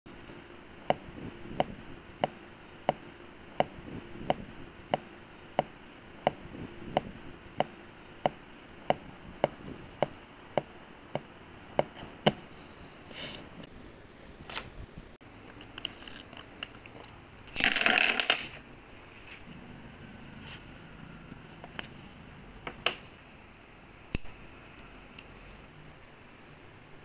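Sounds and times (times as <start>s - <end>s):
faint low hum: 0.1s - 27.0s.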